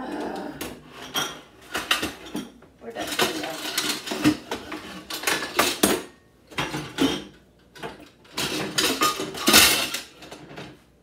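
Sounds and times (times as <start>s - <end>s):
dishes and utensils clattering: 0.0s - 10.8s.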